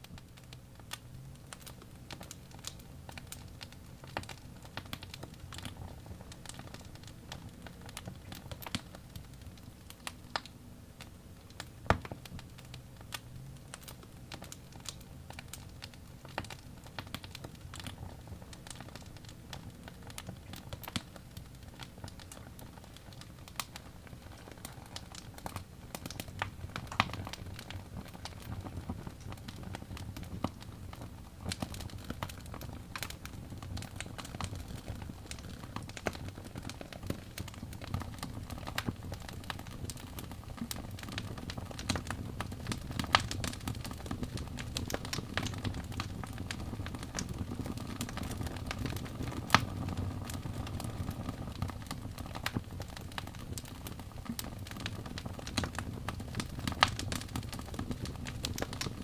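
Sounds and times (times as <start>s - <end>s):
fire pops and snaps: 0.0s - 59.0s
low rumble of flames: 0.0s - 59.0s
wood fire crackling: 0.0s - 59.0s.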